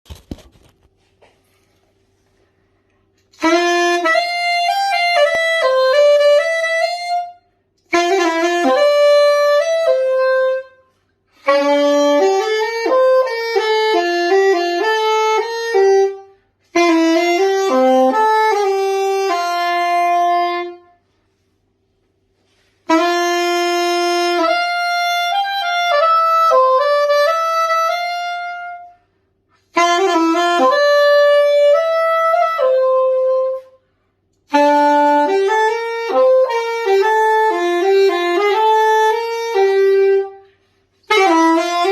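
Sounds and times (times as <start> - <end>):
soprano saxophone melody: 3.0 - 41.9.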